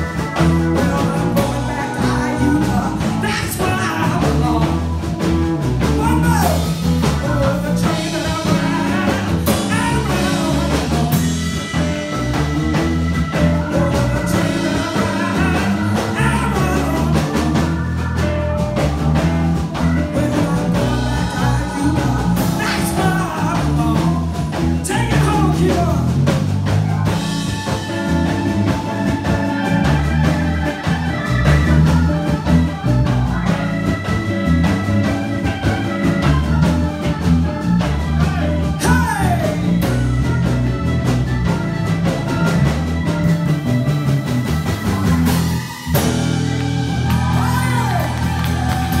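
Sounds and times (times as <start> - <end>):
live band playing: 0.0 - 49.0.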